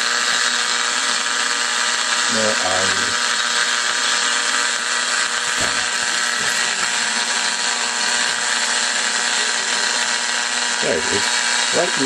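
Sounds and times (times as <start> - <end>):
radio static hiss: 0.2 - 12.0.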